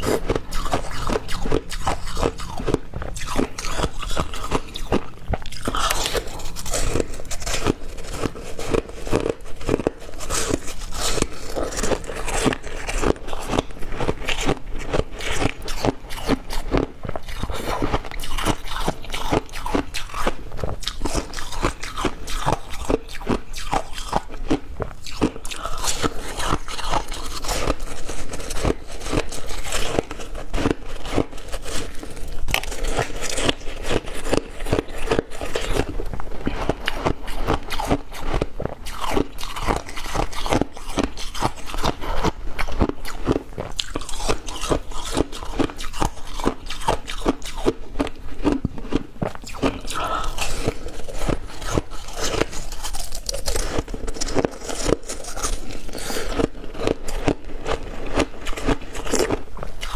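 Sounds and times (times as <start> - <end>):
chewing crunching ice: 0.0 - 59.9.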